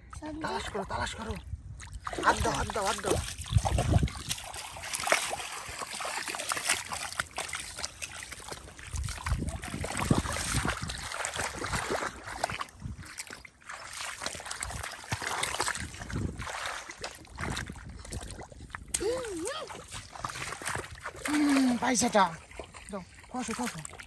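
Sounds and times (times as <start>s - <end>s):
wading through muddy water: 0.0s - 24.0s
feet pulling through mud: 1.9s - 24.0s.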